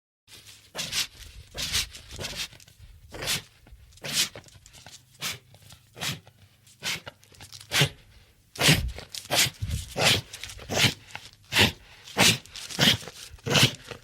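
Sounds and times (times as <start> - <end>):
dog snorting: 0.7 - 4.5, 5.2 - 8.0, 8.6 - 14.0.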